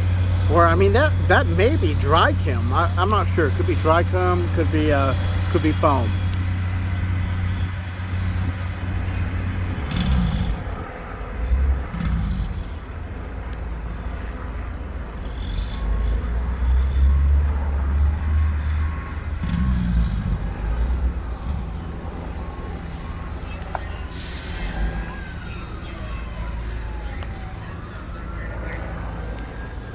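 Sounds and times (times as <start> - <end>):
diesel truck engines running: 0.0 - 29.9.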